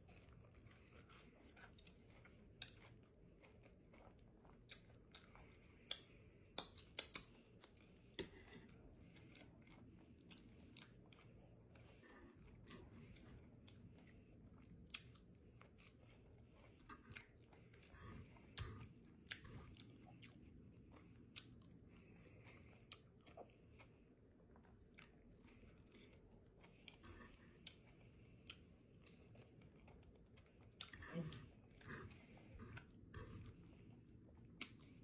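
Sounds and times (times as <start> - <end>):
faint chewing with smacks: 0.0 - 35.0.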